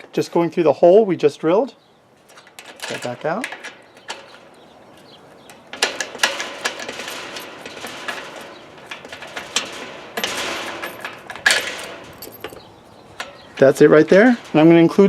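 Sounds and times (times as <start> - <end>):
padlock clicks and rattles: 2.3 - 14.7.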